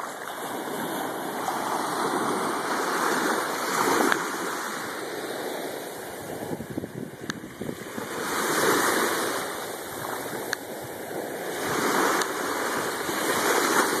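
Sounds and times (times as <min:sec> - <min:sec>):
small waves lapping: 0:00.0 - 0:14.0.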